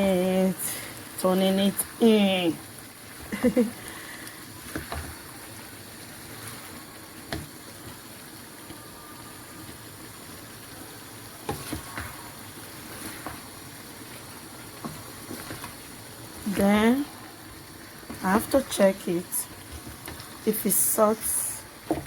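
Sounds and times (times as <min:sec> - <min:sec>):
sauce bubbling in a pan: 0:00.0 - 0:22.0.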